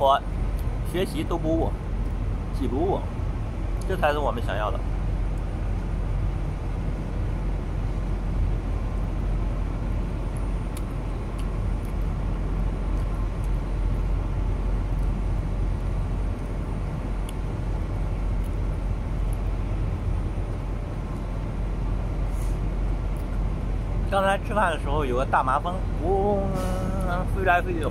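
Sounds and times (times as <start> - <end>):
vehicle engines rumbling: 0.0 - 27.9.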